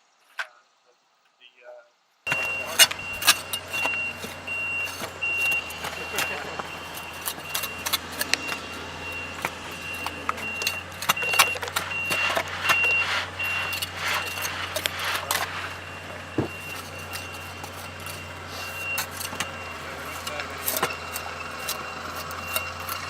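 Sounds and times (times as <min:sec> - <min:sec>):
backup alarm beeping: 0:02.3 - 0:23.0
heavy engine humming: 0:02.3 - 0:23.0
metal hand tools scraping soil: 0:02.3 - 0:23.0.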